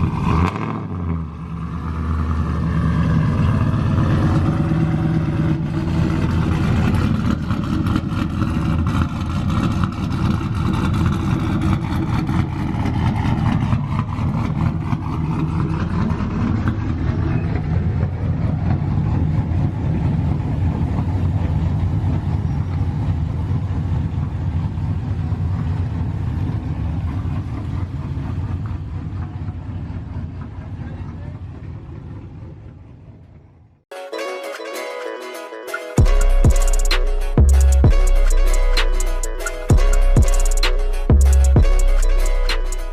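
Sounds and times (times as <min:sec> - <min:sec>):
vehicle engine and exhaust: 0:00.0 - 0:33.8, 0:36.0 - 0:42.9.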